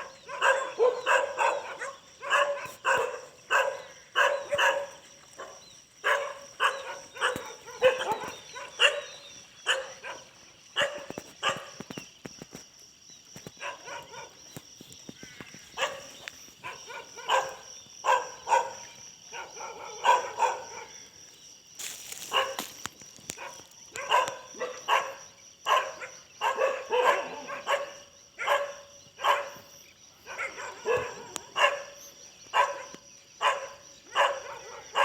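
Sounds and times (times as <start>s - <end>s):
dog barking: 0.0s - 11.8s, 13.6s - 14.4s, 15.7s - 21.2s, 22.2s - 22.7s, 23.3s - 35.0s.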